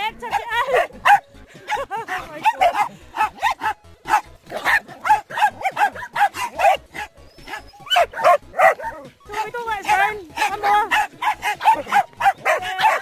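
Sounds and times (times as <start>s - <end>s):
small dogs barking: 0.2s - 13.0s.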